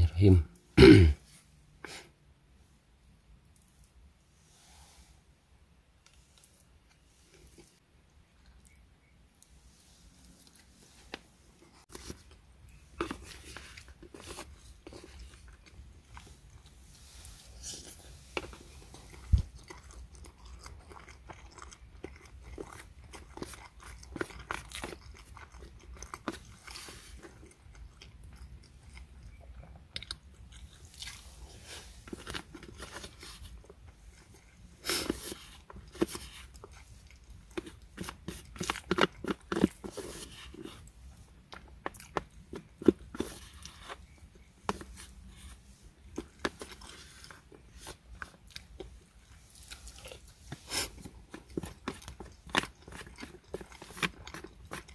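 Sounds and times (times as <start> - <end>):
chewing: 6.0 - 54.9.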